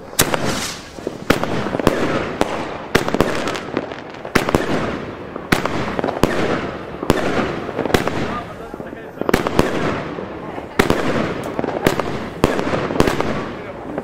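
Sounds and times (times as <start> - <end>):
firework battery bangs: 0.0 - 14.0.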